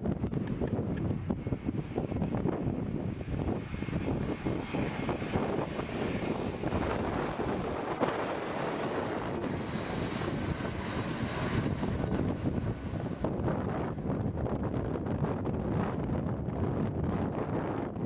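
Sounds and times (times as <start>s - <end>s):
jet aircraft passing overhead: 0.0s - 18.0s
wind buffeting microphone: 0.0s - 18.0s.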